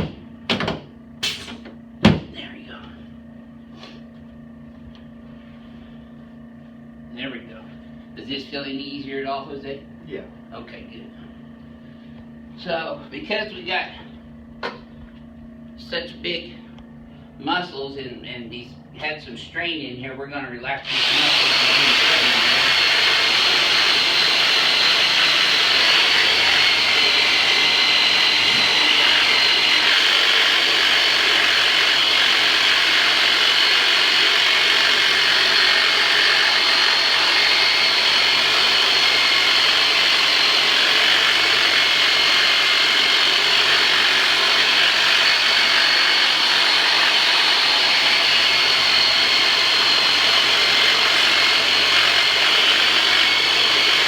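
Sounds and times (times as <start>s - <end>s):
vibration therapy tool whining: 0.0s - 54.0s.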